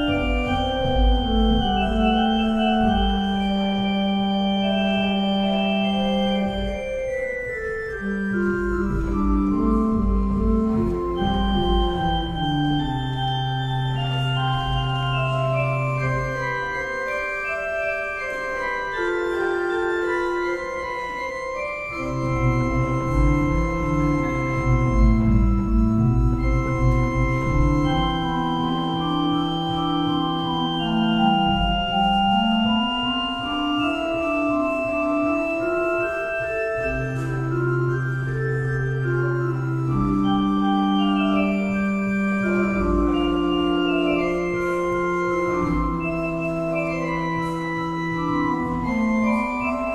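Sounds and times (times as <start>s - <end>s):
pipe organ counterpoint: 0.0s - 49.9s.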